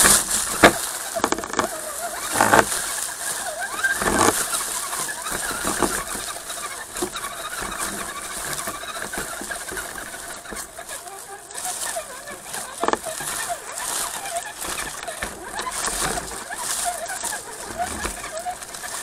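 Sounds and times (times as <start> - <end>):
rc car knocking over rocks: 0.0 - 19.0
rc car motor rumble and whine: 0.0 - 19.0.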